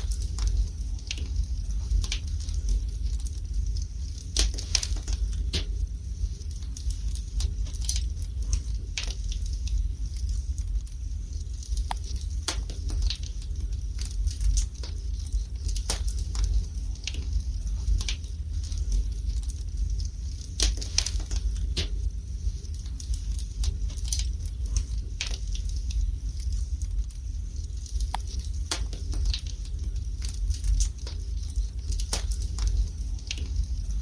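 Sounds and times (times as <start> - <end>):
fire crackling and popping: 0.0 - 34.0
fire low rumble: 0.0 - 34.0.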